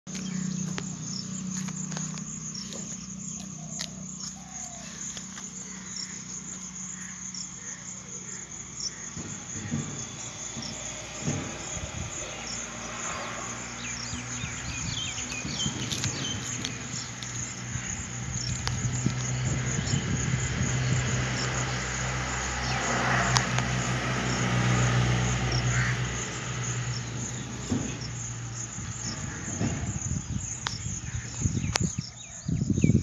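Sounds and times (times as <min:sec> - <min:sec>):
insects trilling: 0:00.1 - 0:33.0.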